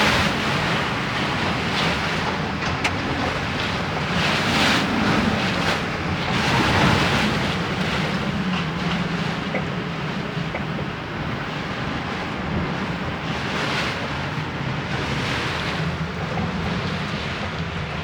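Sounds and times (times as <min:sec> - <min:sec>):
strong gusting wind: 0:00.0 - 0:18.0.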